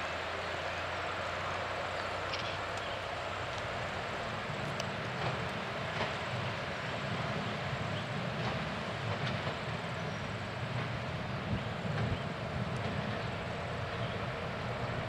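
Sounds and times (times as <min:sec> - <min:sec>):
faint wheel noise on rails: 0:00.0 - 0:15.0
railcar engine drone: 0:00.0 - 0:15.0.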